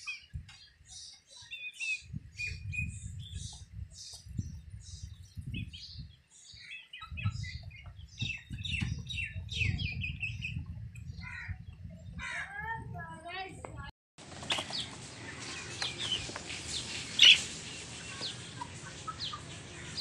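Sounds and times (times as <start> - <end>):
chicks peeping: 0.0 - 11.8, 14.4 - 20.0.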